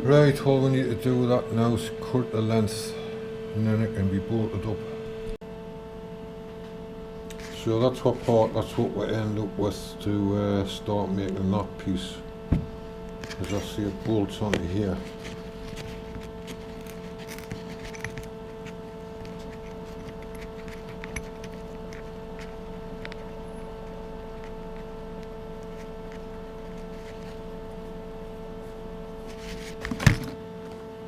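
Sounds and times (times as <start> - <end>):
workshop machine humming: 0.0 - 31.0.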